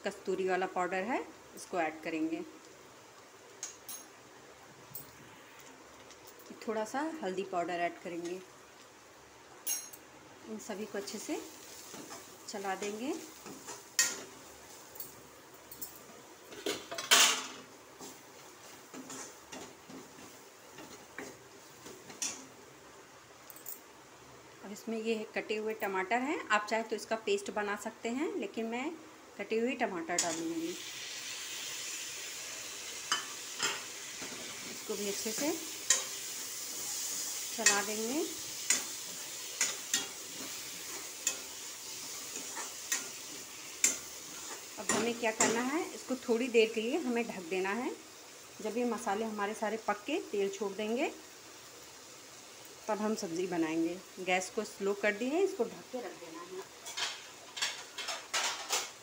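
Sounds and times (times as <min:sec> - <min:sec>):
vegetables sizzling in oil: 0:00.0 - 0:59.0.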